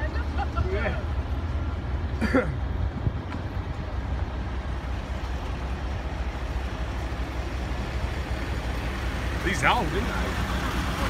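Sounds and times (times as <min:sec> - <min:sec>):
tractor engines rumbling: 0:00.0 - 0:11.0.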